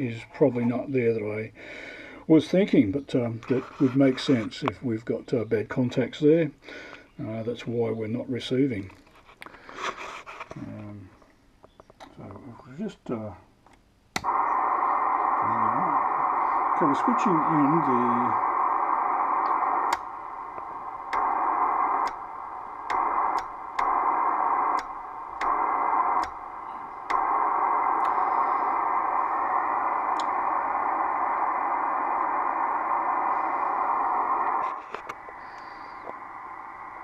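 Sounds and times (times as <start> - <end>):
white noise hiss from speaker: 0.0 - 37.0.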